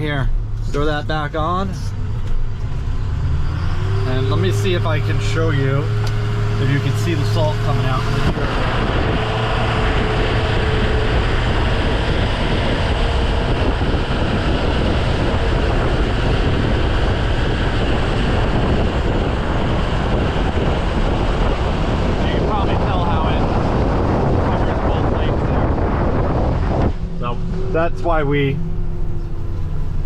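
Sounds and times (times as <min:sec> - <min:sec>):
truck engine and road noise: 0:00.0 - 0:30.0
wind rushing over microphone: 0:01.6 - 0:30.0.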